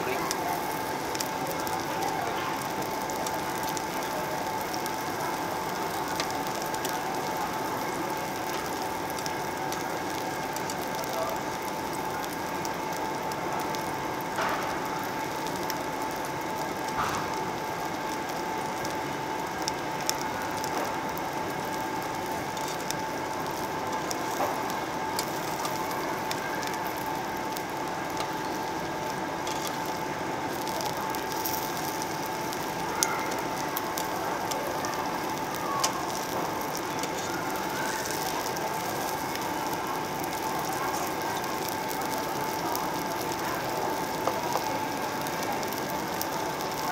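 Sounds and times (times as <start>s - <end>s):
meat sizzling on grill plate: 0.0s - 46.9s.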